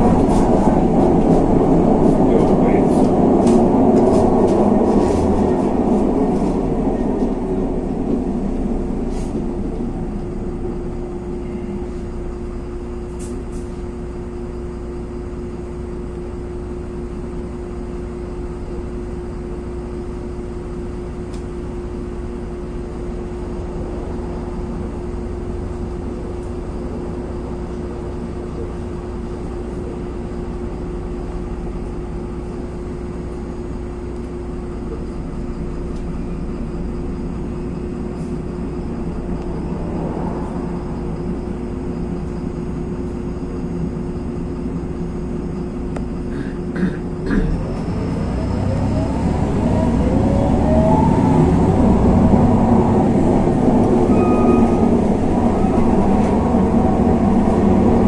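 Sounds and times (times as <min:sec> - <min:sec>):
bus engine idling hum: 0:00.0 - 0:58.0
bus running noise: 0:00.0 - 0:58.0.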